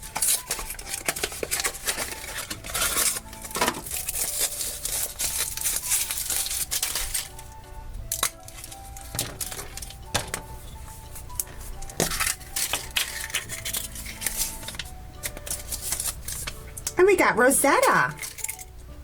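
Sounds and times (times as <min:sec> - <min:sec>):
foil wrapper crinkling: 0:00.0 - 0:16.8, 0:17.8 - 0:18.7
soft background music: 0:00.0 - 0:19.0.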